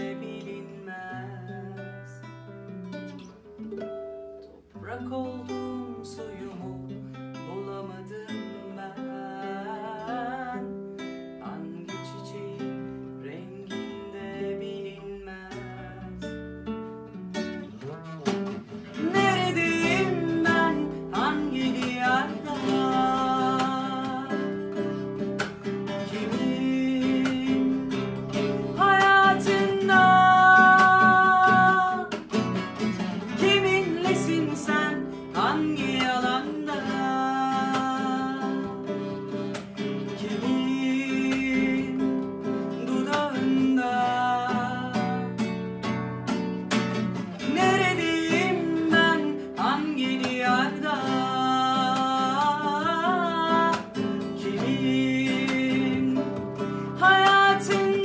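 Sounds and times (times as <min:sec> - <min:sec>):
woman singing: 0:00.0 - 0:02.3, 0:04.8 - 0:16.4, 0:18.5 - 0:46.0, 0:47.4 - 0:58.0
acoustic guitar picked and strummed: 0:00.0 - 0:58.0.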